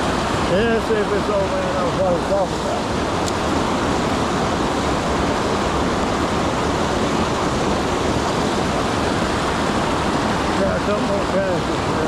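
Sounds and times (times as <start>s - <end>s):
whitewater rushing over rocks: 0.0s - 12.0s.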